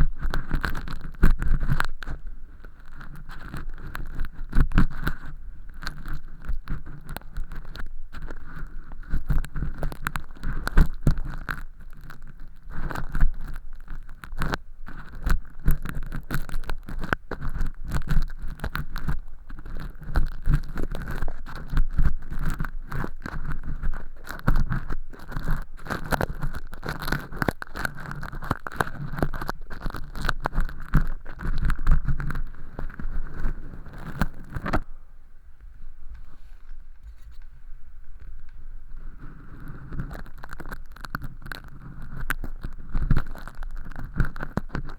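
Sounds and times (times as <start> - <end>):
earpick scraping in ear canal: 0.0 - 35.0, 36.1 - 37.6, 38.2 - 44.9.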